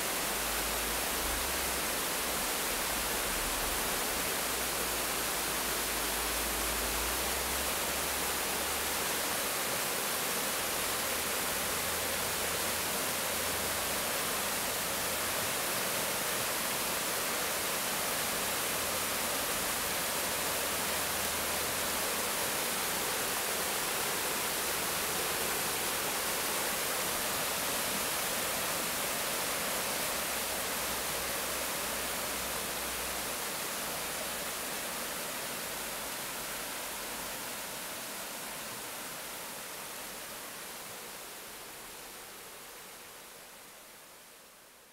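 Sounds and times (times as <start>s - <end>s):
river water rushing over rocks: 0.0s - 44.4s.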